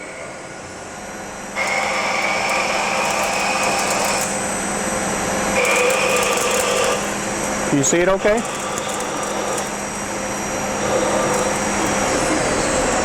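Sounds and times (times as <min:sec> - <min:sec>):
lathe whine and hiss: 0:00.0 - 0:13.0.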